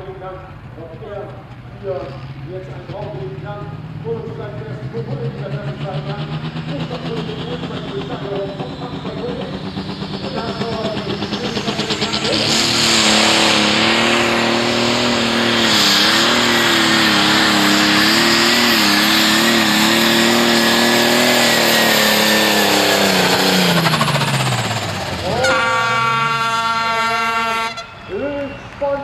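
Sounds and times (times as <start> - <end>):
high engine whine: 0.0 - 29.0
tractor diesel engine revving: 0.0 - 29.0.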